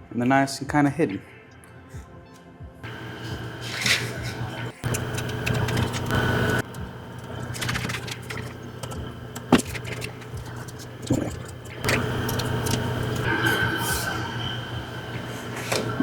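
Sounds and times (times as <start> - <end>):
steady low hum: 2.8 - 16.0.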